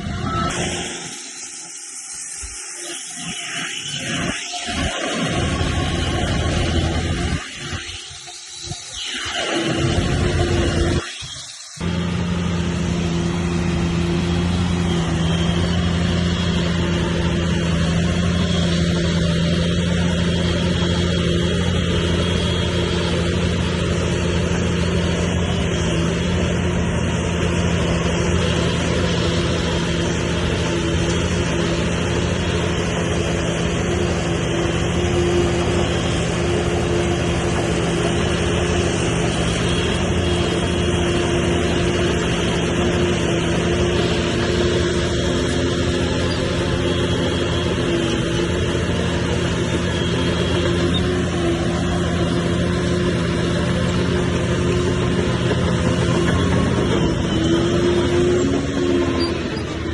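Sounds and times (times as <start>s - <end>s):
heavy diesel engine running: 0.0s - 8.9s, 9.6s - 59.9s.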